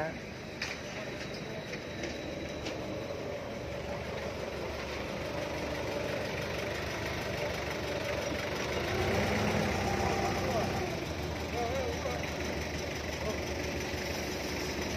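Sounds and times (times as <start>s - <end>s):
forklift engine running: 0.0s - 14.9s.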